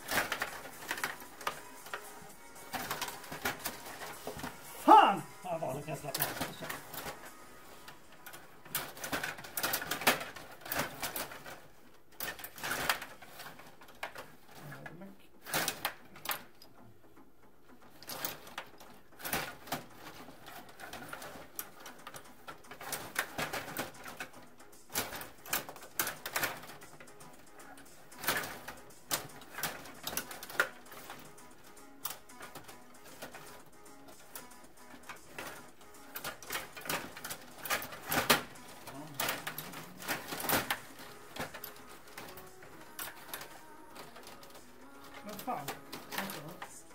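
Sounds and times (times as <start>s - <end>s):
table hockey clacks and rattles: 0.0s - 5.0s, 5.6s - 14.8s, 15.4s - 46.9s.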